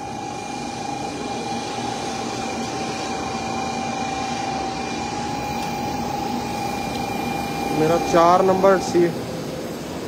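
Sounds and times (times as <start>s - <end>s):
constant whine: 0.0s - 10.0s
station noise: 0.0s - 10.0s
train equipment humming: 0.0s - 10.0s.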